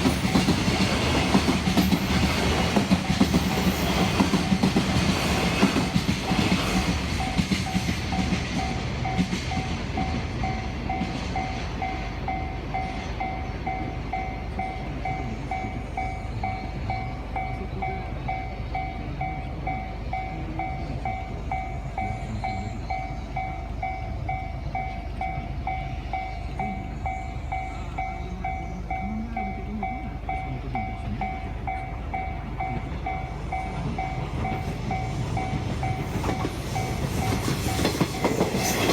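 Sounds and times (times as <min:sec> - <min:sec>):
train rumbling over tracks: 0:00.0 - 0:38.9
level crossing alarm ringing: 0:01.5 - 0:38.9.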